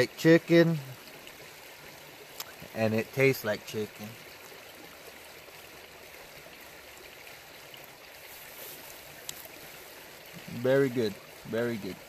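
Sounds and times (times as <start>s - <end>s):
creek babbling over rocks: 0.0s - 12.0s.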